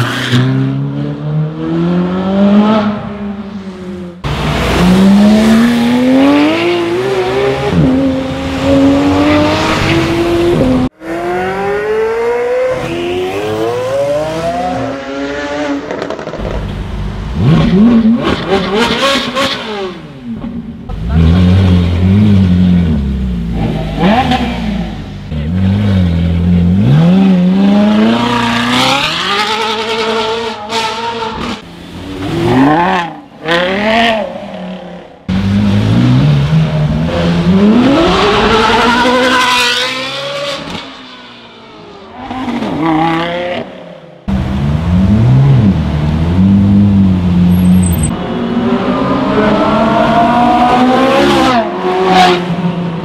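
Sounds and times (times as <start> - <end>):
sports car engines accelerating: 0.5 - 53.0.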